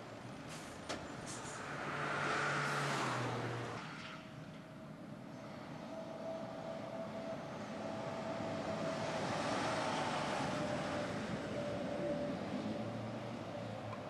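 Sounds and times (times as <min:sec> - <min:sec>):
lorries passing on motorway: 0:00.0 - 0:14.0.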